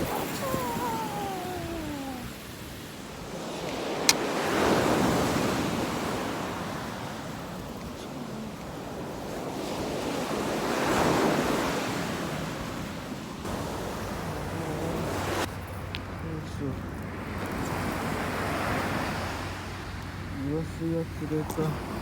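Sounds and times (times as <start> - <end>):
waves breaking on shore: 0.0 - 22.0.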